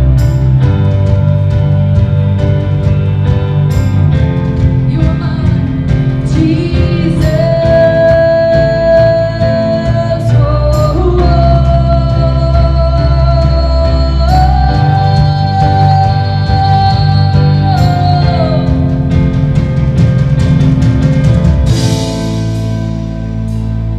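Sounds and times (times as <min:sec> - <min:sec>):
worship band playing: 0:00.0 - 0:23.9.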